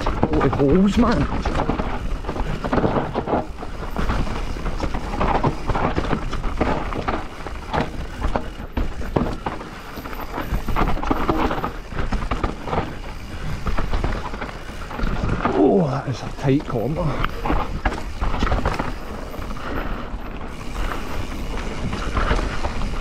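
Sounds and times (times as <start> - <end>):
bike clattering over bumps: 0.0 - 23.0
tyres on loose dirt: 0.0 - 23.0.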